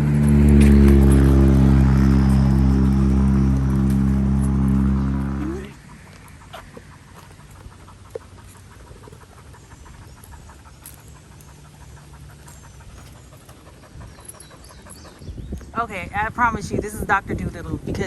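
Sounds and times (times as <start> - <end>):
dog panting: 0.0 - 18.0.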